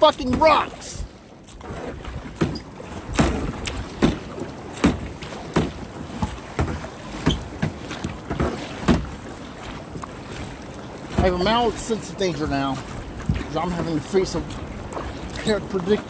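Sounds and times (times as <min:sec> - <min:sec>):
paddle splashing and knocking: 0:00.0 - 0:16.0.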